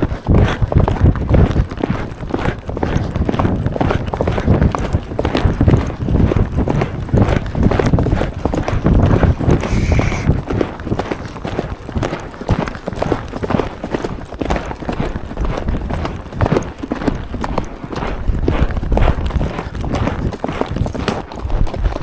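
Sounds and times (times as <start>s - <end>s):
horse hoofbeats on trail: 0.0s - 22.0s.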